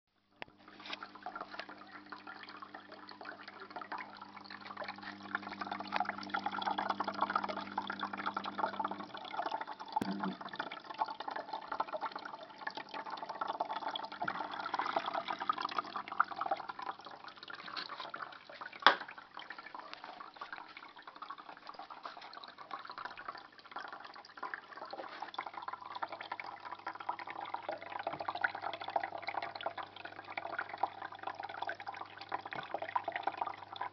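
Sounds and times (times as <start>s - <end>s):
water drips: 0.4s - 33.9s
water trickling and splashing: 0.4s - 33.9s.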